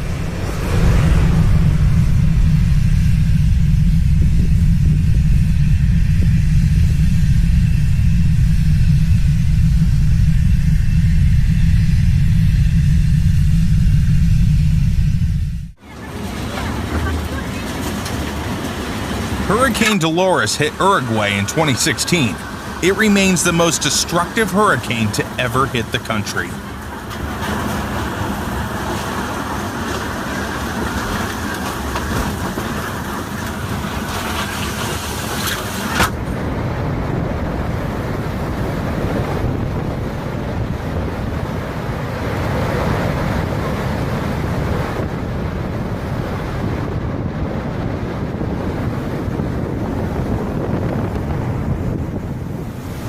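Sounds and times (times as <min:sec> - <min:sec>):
storm wind buffeting microphone: 0:00.0 - 0:25.3, 0:26.0 - 0:53.0.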